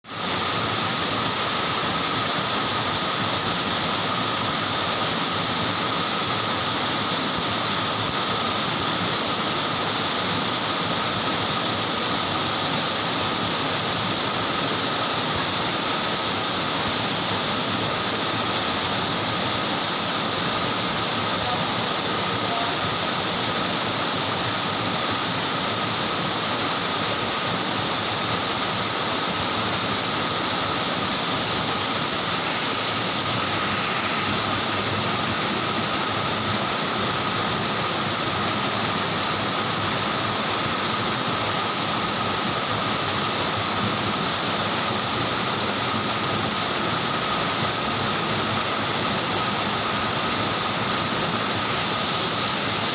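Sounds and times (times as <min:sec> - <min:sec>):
waterfall roaring: 0:00.1 - 0:52.9.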